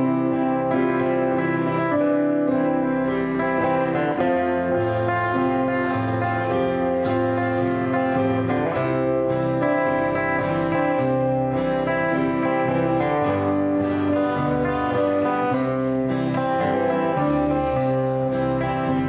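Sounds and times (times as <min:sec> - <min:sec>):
acoustic guitar strumming: 0:00.0 - 0:19.0
bass line: 0:00.0 - 0:19.0.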